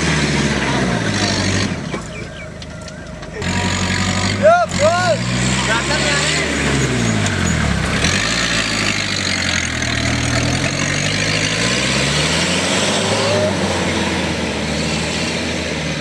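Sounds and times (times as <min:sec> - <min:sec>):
engine revving hard: 0:00.0 - 0:02.0, 0:03.4 - 0:16.0.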